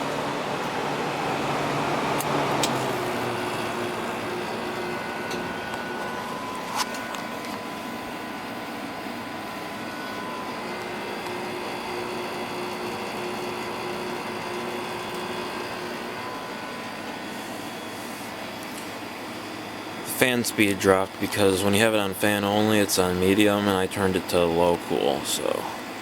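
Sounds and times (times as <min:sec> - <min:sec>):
air conditioner running: 0:00.0 - 0:26.0.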